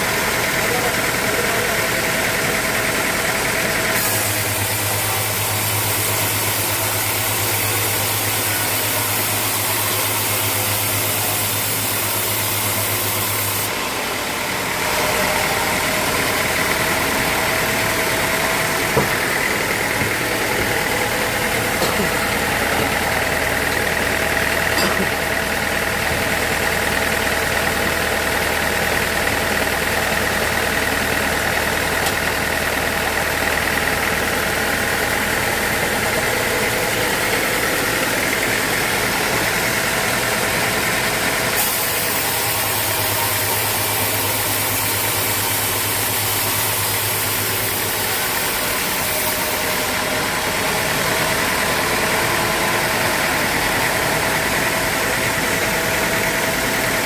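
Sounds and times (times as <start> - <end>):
sawmill machinery hum and whine: 0.0 - 57.0.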